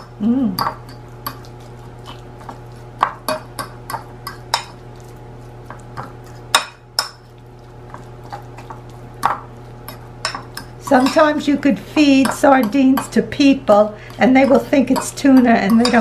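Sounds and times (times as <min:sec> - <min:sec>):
fork clinking and scraping bowl: 0:00.6 - 0:11.4, 0:12.0 - 0:16.0.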